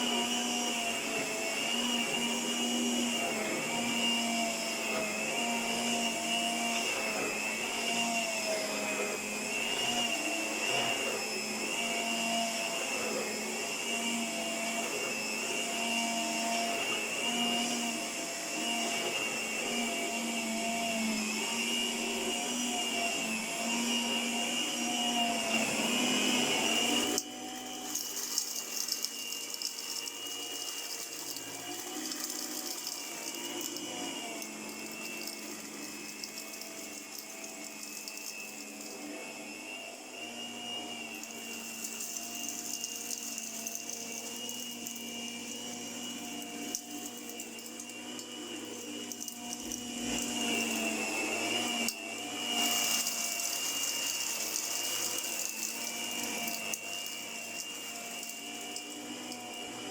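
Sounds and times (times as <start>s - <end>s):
electric carpet sweeper whining: 0.0s - 59.9s.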